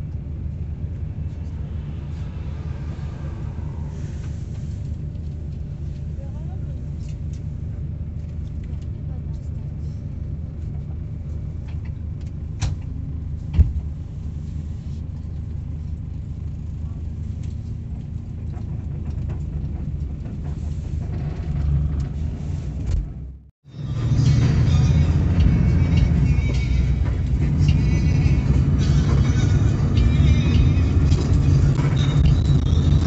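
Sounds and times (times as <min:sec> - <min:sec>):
bus rumble from inside: 0:00.0 - 0:33.0.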